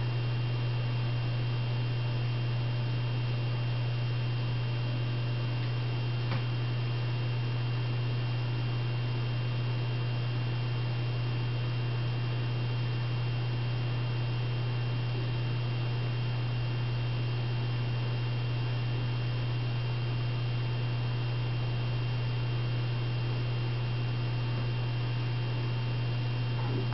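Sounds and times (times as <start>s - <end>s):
faint high whine and hiss: 0.0s - 26.9s
low electrical hum: 0.0s - 26.9s.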